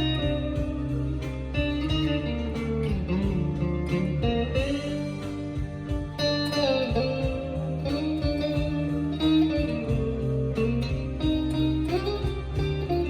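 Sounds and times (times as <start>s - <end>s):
clean electric guitar: 0.0s - 13.0s.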